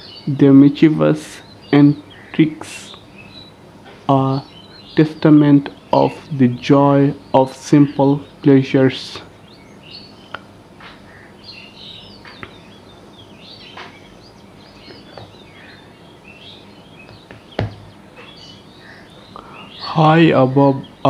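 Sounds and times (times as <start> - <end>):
faint background hiss: 0.0 - 21.0
small birds chirping and twittering: 0.0 - 21.0.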